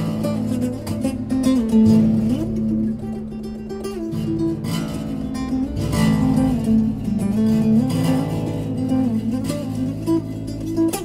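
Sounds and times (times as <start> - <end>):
plucked acoustic bass drone note: 0.0 - 11.0
plucked melody notes: 0.0 - 11.0.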